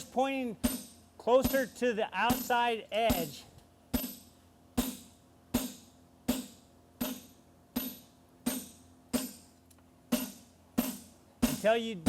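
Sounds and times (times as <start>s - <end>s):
hammer striking metal on anvil: 0.6s - 9.5s, 10.1s - 11.9s.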